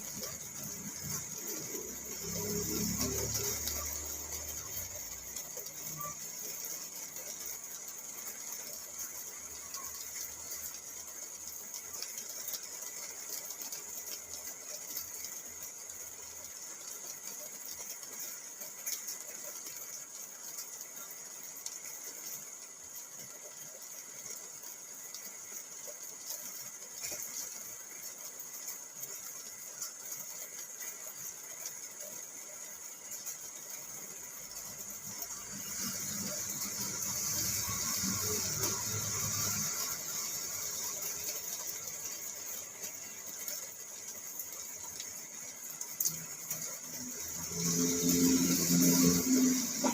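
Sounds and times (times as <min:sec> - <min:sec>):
rain drumming on car roof: 0:00.0 - 0:49.9.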